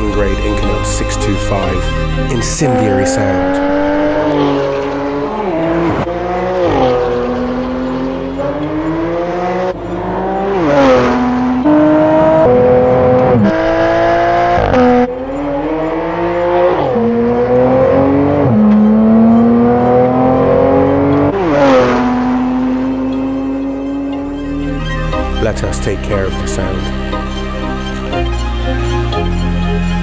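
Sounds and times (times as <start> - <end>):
car engine accelerating hard: 0.0 - 30.0.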